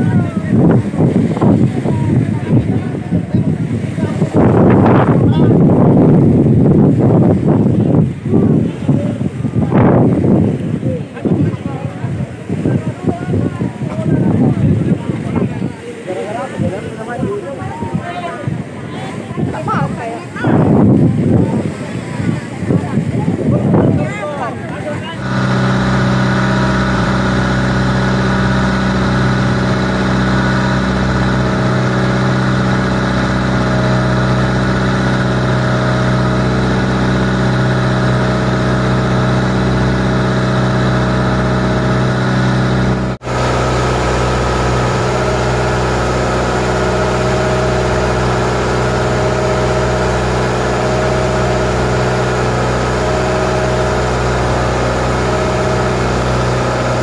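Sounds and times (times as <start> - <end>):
boat engine droning: 0.0 - 57.0
rush of wind and water: 0.0 - 57.0.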